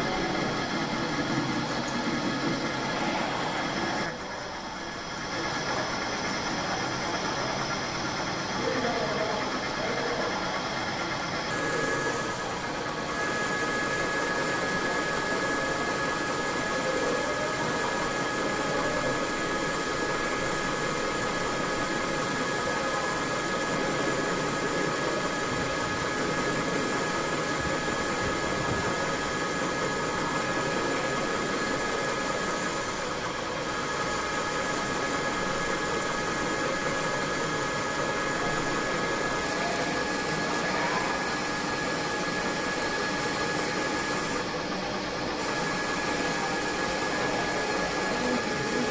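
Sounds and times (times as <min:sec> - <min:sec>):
metal lathe running: 0:00.0 - 0:48.9
thin high whine: 0:00.0 - 0:48.9.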